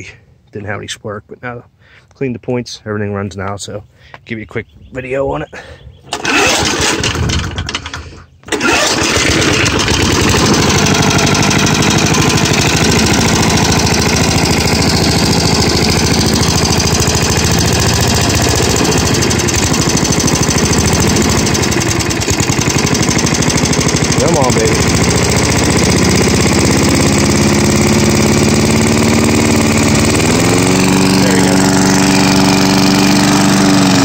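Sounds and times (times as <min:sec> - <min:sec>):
lawn mower engine running: 0:06.1 - 0:34.0
recoil starter pull: 0:06.1 - 0:34.0.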